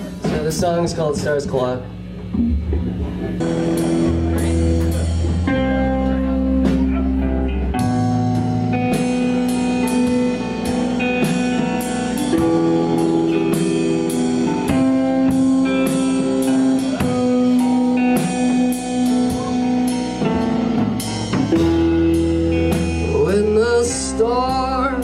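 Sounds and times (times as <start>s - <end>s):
drum kit steady beat: 0.0s - 25.0s
electric guitar notes: 0.0s - 25.0s.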